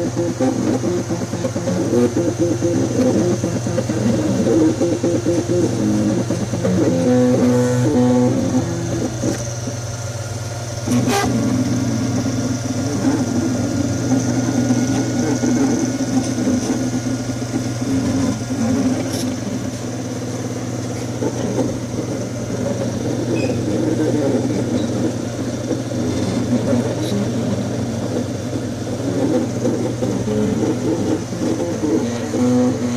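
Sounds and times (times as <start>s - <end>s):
stepper motors humming and whirring: 0.0s - 32.9s.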